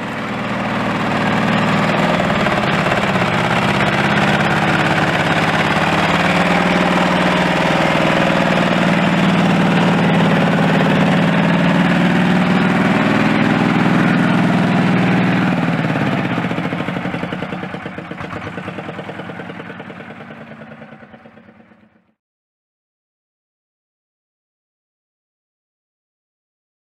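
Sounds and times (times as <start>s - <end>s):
small tractor engine running: 0.0s - 22.2s.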